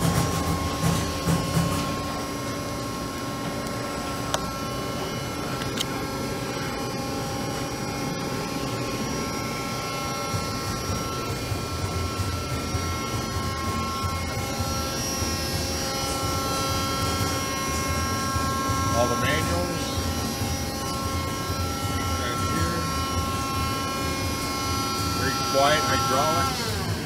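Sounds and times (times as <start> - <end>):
hydraulic pump motor hum: 0.0 - 27.0.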